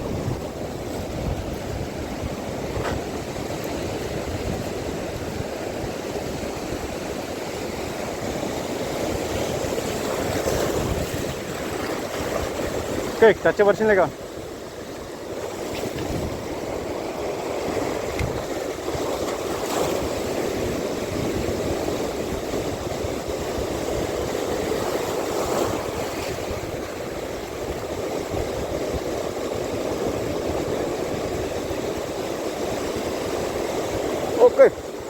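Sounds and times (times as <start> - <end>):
sea water washing: 0.0 - 35.0
wind buffeting microphone: 0.0 - 35.0.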